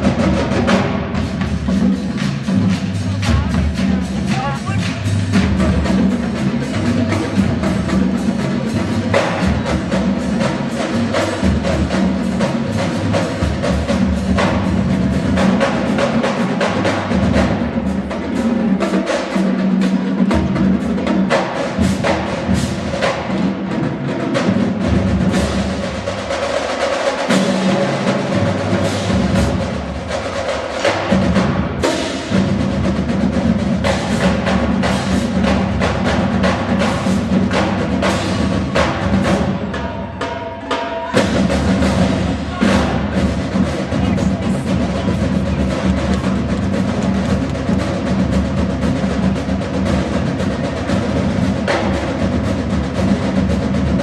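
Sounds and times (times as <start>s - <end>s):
marching band drums and percussion: 0.0s - 54.0s.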